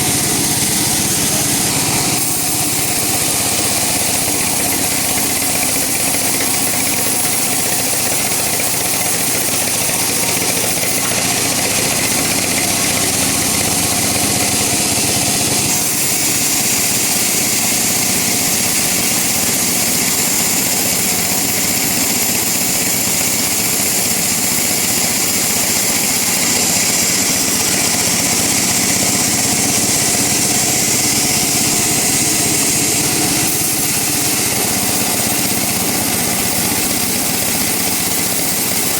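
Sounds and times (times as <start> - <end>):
hissing wood cutting noise: 0.0 - 38.9
motor drone: 0.0 - 38.9.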